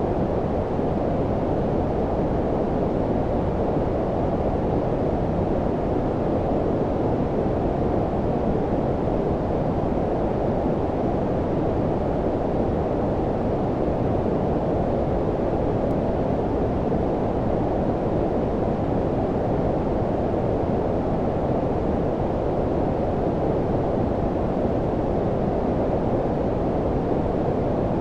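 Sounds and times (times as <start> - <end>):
low brown noise hiss: 0.0 - 28.0.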